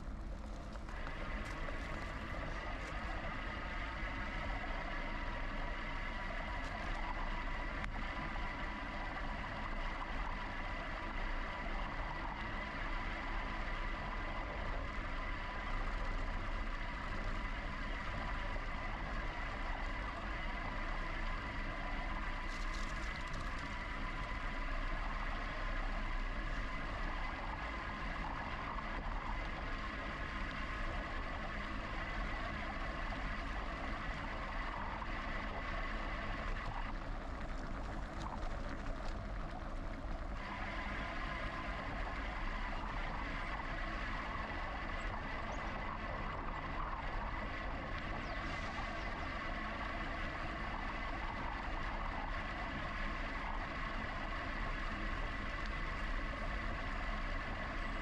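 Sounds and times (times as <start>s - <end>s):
electric bike high whine: 0.0s - 58.0s.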